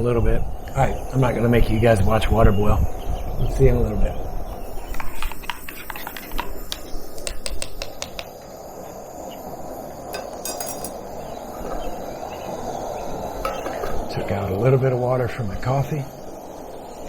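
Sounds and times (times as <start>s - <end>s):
low rush of outdoor noise: 0.0s - 17.0s.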